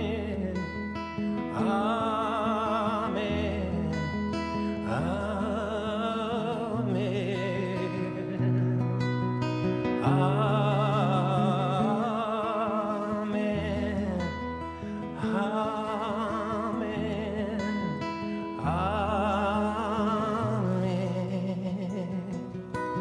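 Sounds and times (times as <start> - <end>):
acoustic guitar strumming: 0.0 - 23.0
man singing with vibrato: 0.0 - 23.0.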